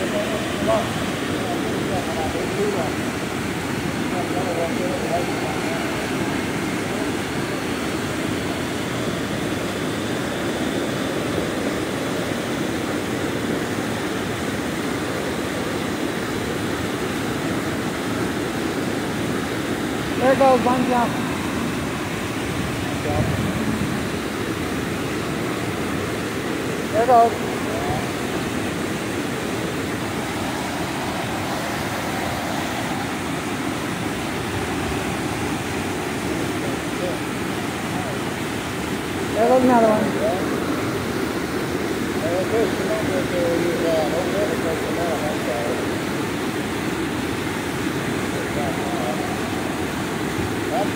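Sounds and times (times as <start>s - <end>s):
water rushing over spillway: 0.0s - 50.9s.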